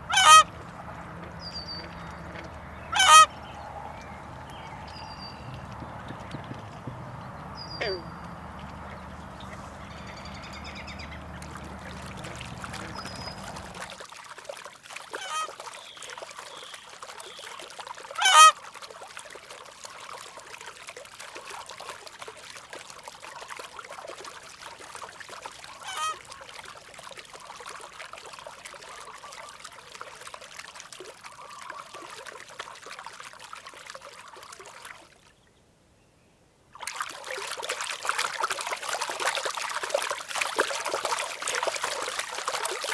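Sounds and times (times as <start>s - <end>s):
waterbird calling: 0.0s - 14.1s, 14.9s - 35.5s, 36.8s - 42.9s
trickle of running water: 0.0s - 35.4s, 36.8s - 42.9s.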